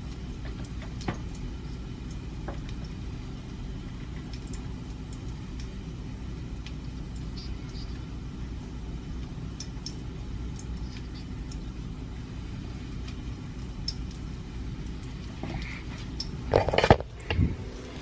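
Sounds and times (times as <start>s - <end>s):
range hood fan running: 0.0s - 18.0s.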